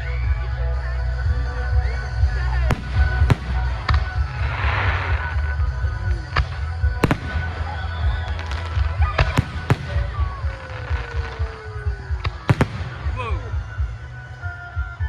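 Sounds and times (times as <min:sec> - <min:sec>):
fireworks cracking: 0:02.4 - 0:14.6.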